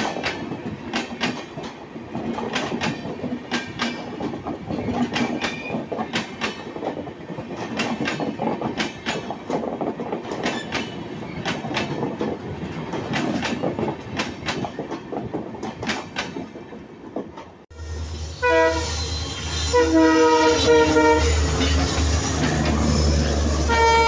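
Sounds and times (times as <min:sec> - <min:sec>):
train wheels clicking over rail joints: 0:00.0 - 0:17.6, 0:20.4 - 0:23.7
train rumble: 0:00.0 - 0:24.0.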